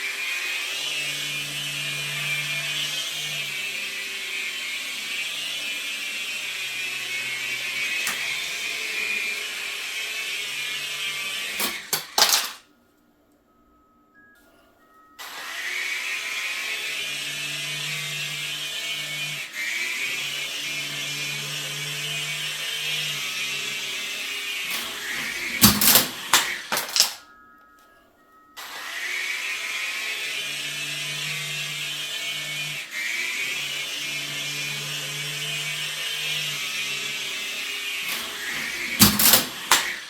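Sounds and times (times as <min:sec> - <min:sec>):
toy helicopter motors whining: 0:00.0 - 0:12.6, 0:15.2 - 0:27.3, 0:28.6 - 0:40.0.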